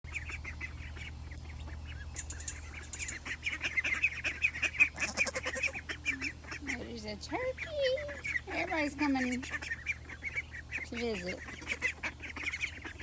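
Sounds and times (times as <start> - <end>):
ducks quacking: 0.1 - 13.0
steady low hum: 0.1 - 13.0.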